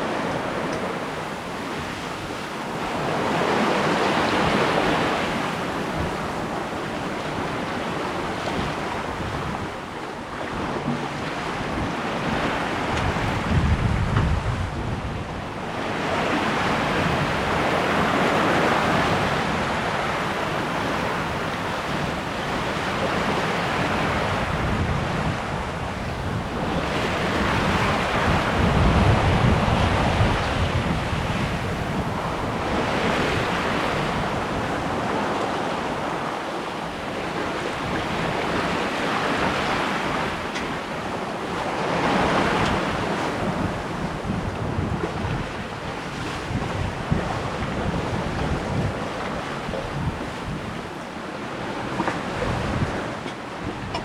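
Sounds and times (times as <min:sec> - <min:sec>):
water rushing along a hull: 0:00.0 - 0:54.0
wind gusting on microphone: 0:00.0 - 0:54.0.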